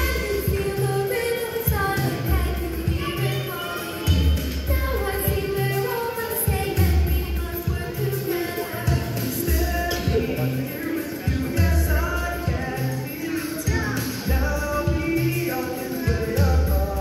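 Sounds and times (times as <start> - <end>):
song with heavy bass over speakers: 0.0 - 17.0.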